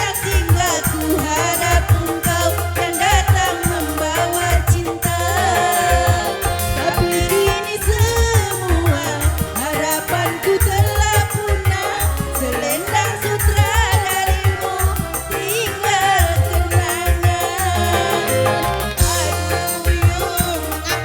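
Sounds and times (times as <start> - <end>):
drum and bass beat: 0.0 - 21.0
keyboard band playing dance music: 0.0 - 21.0
ornamented melody line: 0.0 - 21.0.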